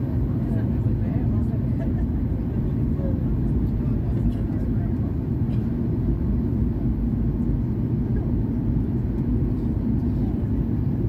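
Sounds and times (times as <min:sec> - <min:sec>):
jet engine roar in cabin: 0:00.0 - 0:11.0.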